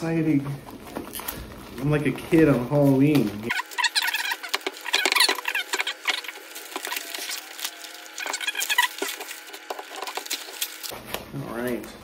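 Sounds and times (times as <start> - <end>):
plastic bag crinkling: 0.9 - 11.0.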